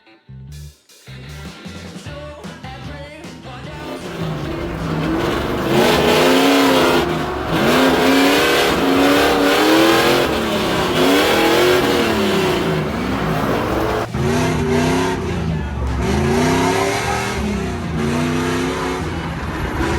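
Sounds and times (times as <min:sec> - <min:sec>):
car engine revving hard: 0:03.8 - 0:19.9.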